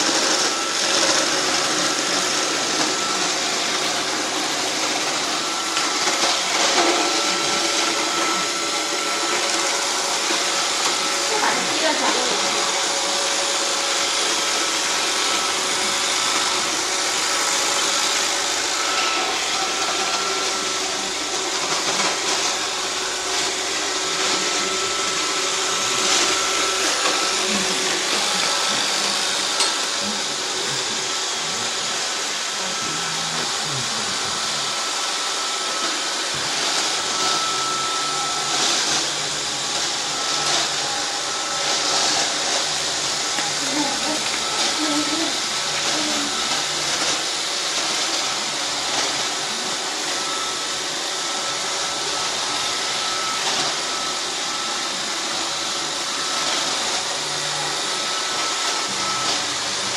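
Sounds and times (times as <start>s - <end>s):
robot vacuum cleaner running: 0.0s - 59.9s.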